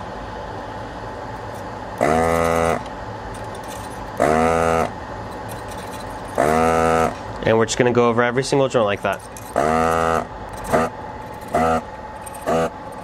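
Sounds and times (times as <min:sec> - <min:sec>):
desoldering pump buzzing: 0:00.0 - 0:13.0
steady low hum: 0:00.0 - 0:13.0.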